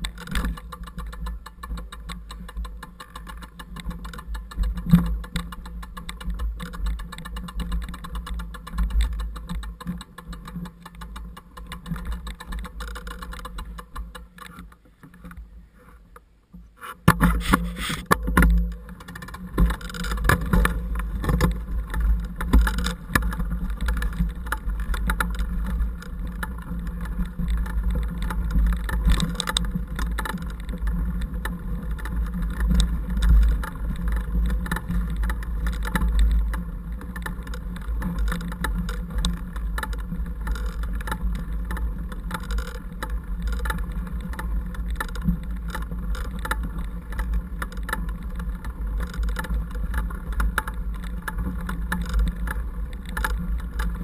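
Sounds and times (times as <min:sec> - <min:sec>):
bike rattles and knocks: 0:00.0 - 0:15.3, 0:16.8 - 0:54.0
low rumble of wind and vibration: 0:00.0 - 0:54.0.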